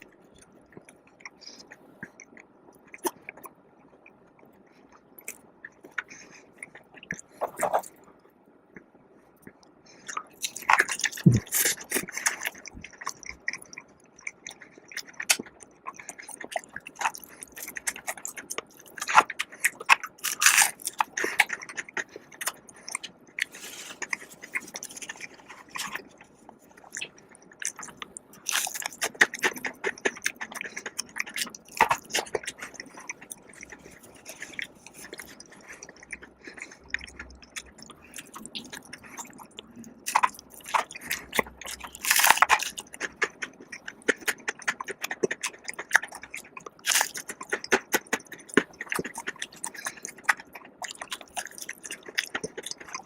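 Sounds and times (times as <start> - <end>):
chewing crispy fried food: 0.0 - 53.0.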